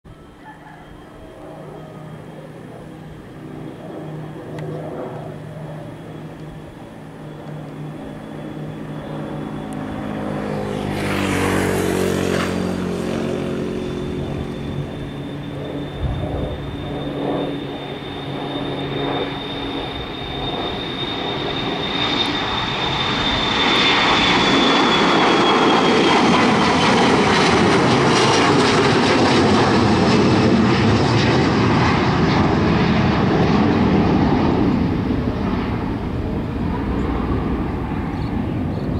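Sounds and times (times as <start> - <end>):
airliner engines taking off: 0.1 - 38.9.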